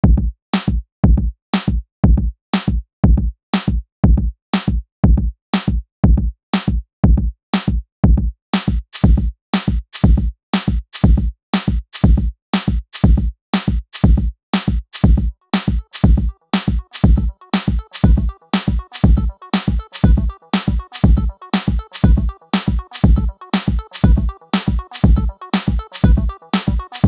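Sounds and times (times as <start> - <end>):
drum machine beat: 0.0 - 27.0.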